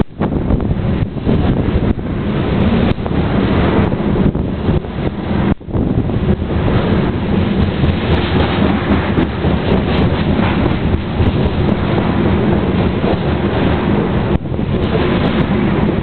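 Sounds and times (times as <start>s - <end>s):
train cars rumbling past: 0.0s - 16.0s.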